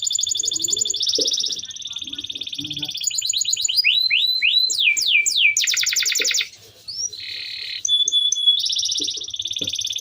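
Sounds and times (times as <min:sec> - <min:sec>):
canary singing trills: 0:00.0 - 0:10.0.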